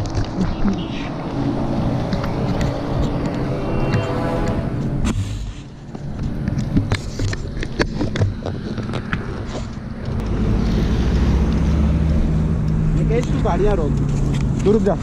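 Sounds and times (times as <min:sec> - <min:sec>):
car engine passing: 0:00.0 - 0:06.8, 0:08.6 - 0:14.8.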